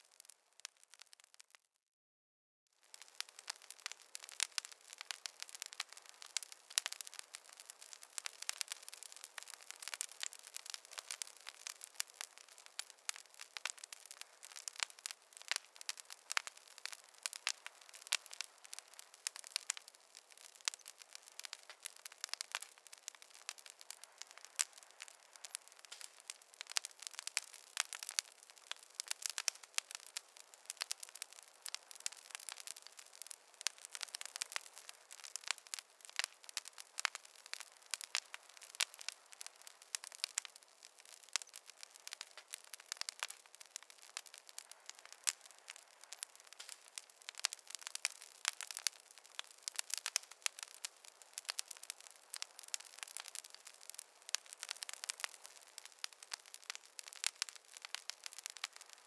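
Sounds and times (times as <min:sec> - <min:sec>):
campfire crackling: 0:00.0 - 0:01.6, 0:02.8 - 0:59.0.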